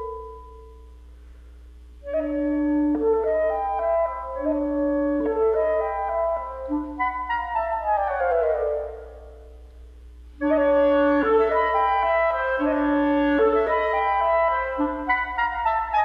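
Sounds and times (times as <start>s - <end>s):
instrumental music with wind instruments: 0.0s - 1.2s, 1.8s - 16.0s.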